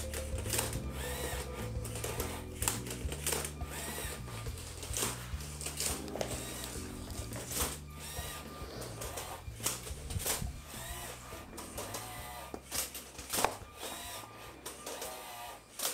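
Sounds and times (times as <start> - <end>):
rapid gear clicks: 0.0 - 15.9
robot motors whirring: 0.4 - 15.9.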